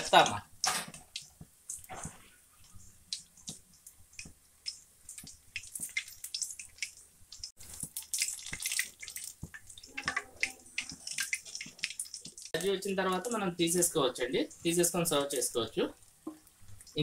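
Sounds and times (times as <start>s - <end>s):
oil sizzling and popping: 0.0s - 17.0s.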